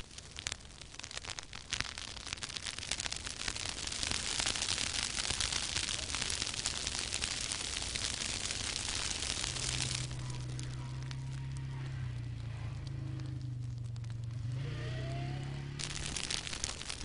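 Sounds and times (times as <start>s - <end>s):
dry grass burning crackle: 0.0s - 17.0s.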